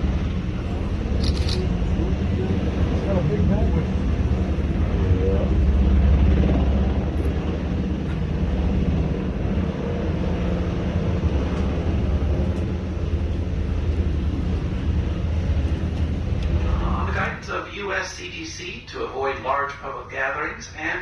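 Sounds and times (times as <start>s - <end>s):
helicopter rotor and engine: 0.0s - 21.0s.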